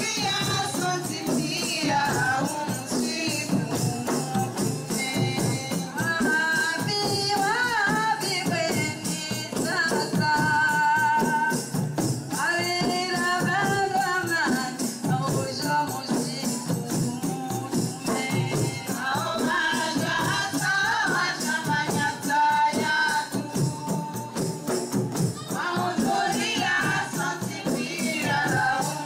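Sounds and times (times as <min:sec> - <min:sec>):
rattling percussion: 0:00.0 - 0:29.0
women singing together: 0:00.0 - 0:29.0.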